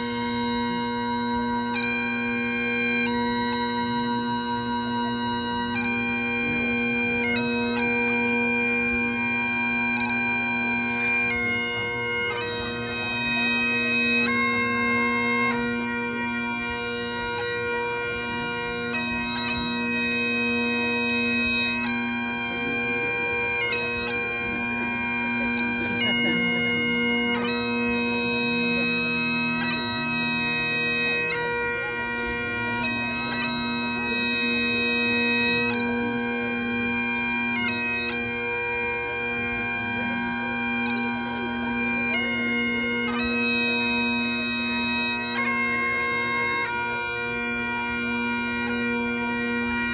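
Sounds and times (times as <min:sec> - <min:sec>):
bagpipes playing slow tune: 0:00.0 - 0:49.9.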